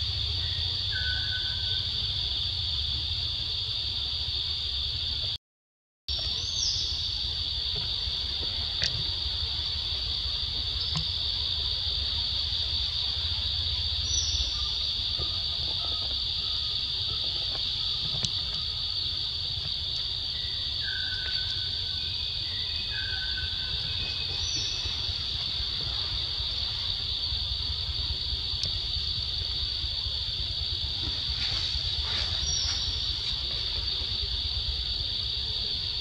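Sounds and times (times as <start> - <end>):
insect chorus: 0.0 - 5.4, 6.1 - 36.0.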